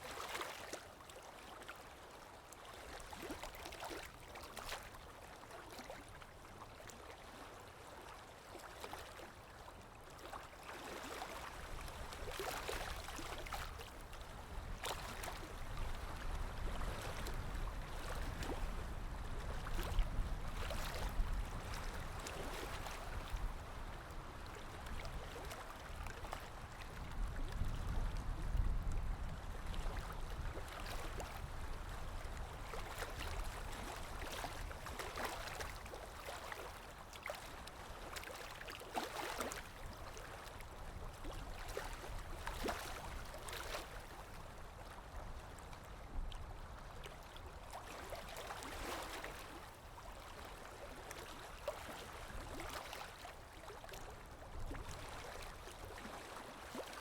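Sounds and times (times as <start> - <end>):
water lapping: 0.0 - 57.0.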